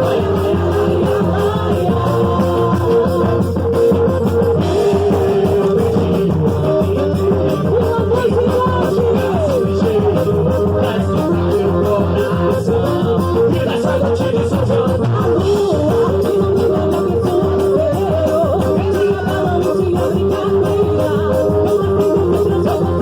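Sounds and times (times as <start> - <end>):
festive folk music with guitar: 0.0 - 23.0
person singing: 0.0 - 23.0.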